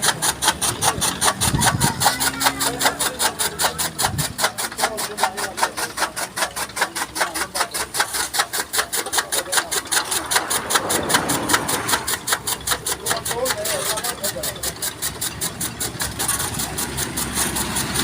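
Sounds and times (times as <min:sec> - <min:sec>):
chaff cutter chopping stalks: 0:00.0 - 0:18.0.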